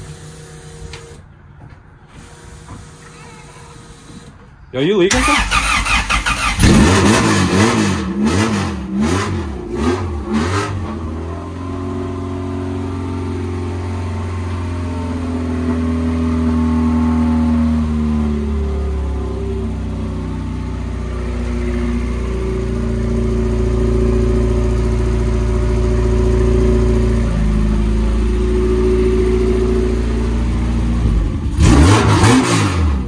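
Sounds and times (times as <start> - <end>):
car engine idling and revving: 5.1 - 33.0.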